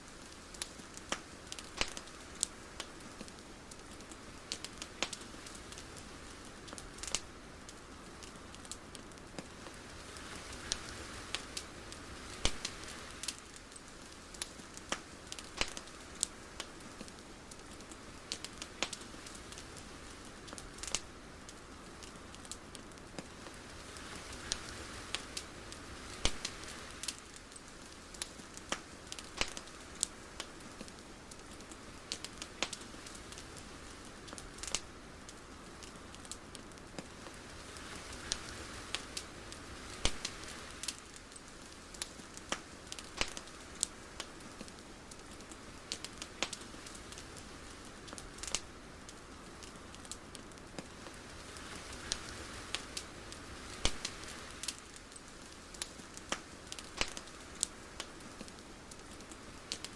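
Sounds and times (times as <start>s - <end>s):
sharp crackles and pops: 0.0s - 59.9s
soft steady hiss: 0.0s - 59.9s.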